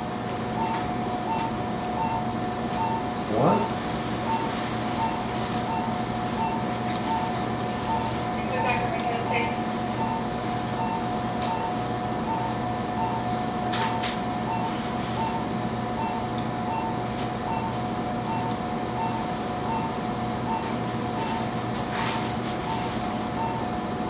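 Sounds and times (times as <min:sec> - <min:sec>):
steady hum and hiss: 0:00.0 - 0:24.0.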